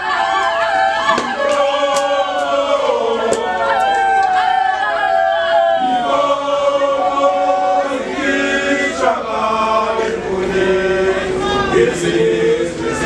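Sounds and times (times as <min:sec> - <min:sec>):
men chanting a song: 0:00.0 - 0:04.1, 0:05.6 - 0:13.0.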